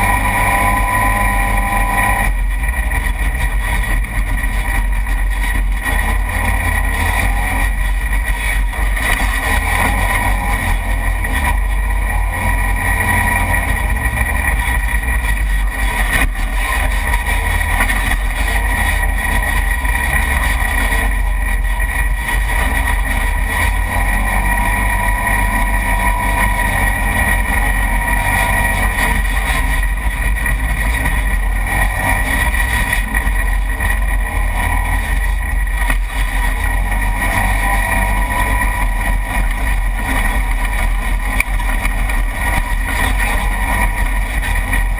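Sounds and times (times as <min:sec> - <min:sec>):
utility vehicle engine drone: 0:00.0 - 0:44.9.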